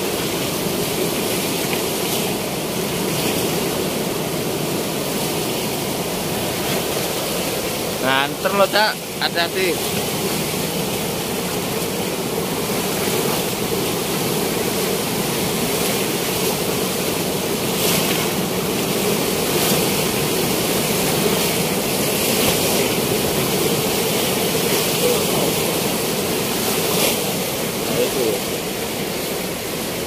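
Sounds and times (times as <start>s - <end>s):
river water rushing through weir: 0.0s - 30.0s.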